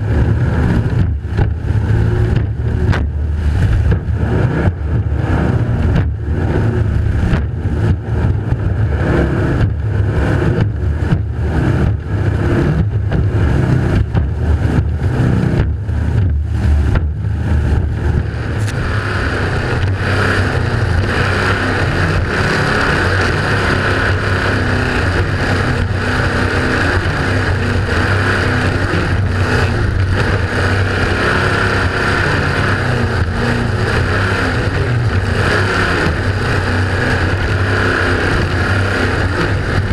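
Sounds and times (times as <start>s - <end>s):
powerboat engine drone: 0.0s - 39.9s
rushing water and spray: 0.0s - 39.9s.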